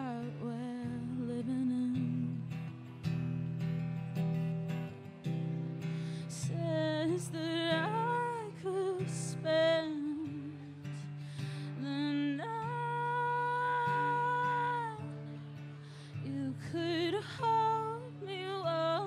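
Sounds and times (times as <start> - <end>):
woman singing: 0.0 - 3.2, 5.9 - 19.0
acoustic guitar: 0.0 - 19.0.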